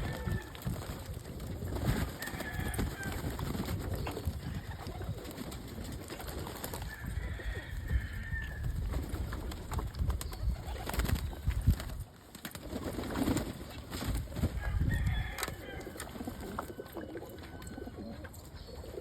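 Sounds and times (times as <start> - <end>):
pigeons cooing: 0.0 - 11.4, 12.7 - 19.0.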